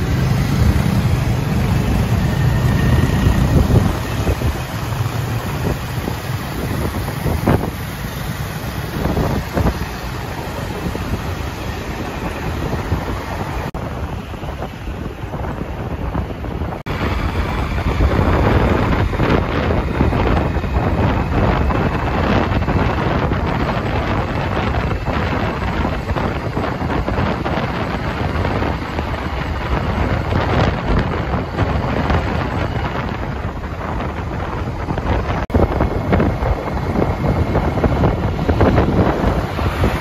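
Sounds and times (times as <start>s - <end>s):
vehicle noise: 0.0s - 40.0s
wind on microphone: 0.0s - 40.0s.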